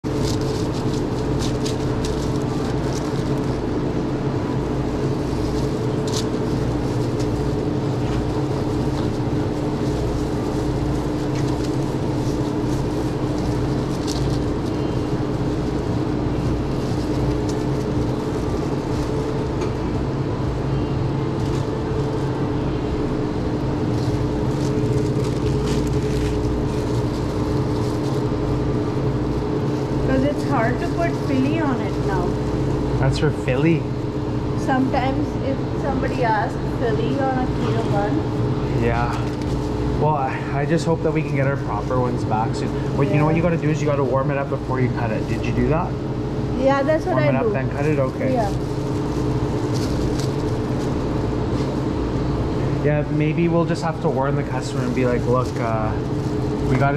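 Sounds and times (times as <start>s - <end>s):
machine hum with low rumble: 0.0s - 56.9s.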